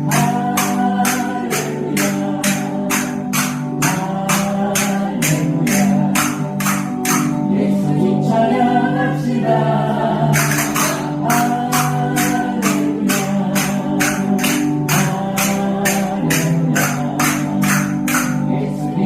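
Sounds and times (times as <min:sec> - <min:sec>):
spoons clacking in a beat: 0:00.0 - 0:07.6, 0:10.3 - 0:18.8
praise song with choir singing: 0:00.0 - 0:19.0.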